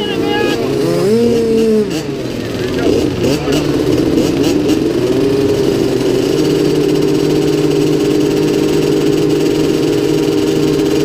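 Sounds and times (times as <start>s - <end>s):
motocross bike engines idling: 0.0s - 11.0s.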